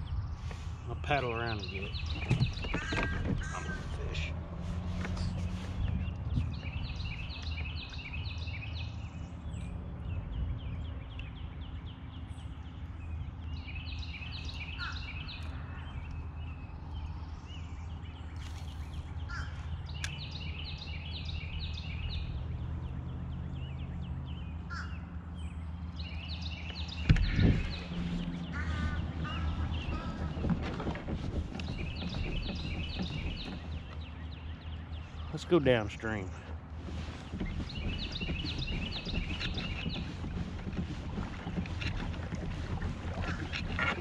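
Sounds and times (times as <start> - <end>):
songbird singing: 0.0 - 44.0.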